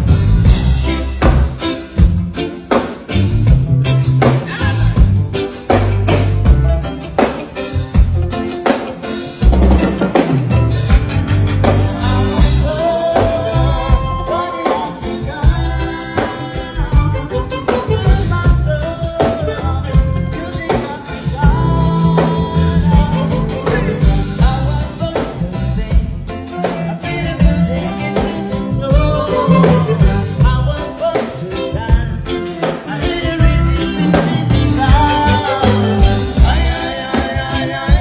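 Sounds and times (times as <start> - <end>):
bass line: 0.0 - 38.0
live band playing: 0.0 - 38.0.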